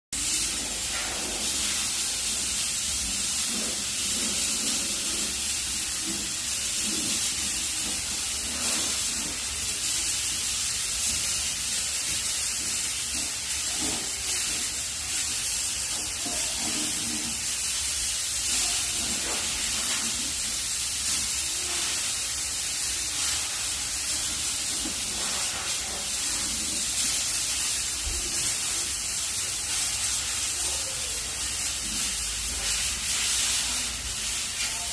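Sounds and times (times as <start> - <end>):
steam cleaner hissing: 0.2 - 34.9.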